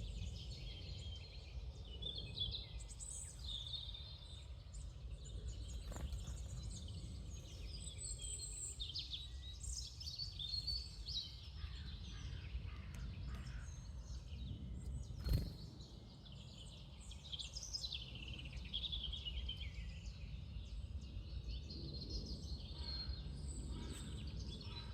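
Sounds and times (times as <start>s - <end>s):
small birds chirping and singing: 0.0s - 24.9s.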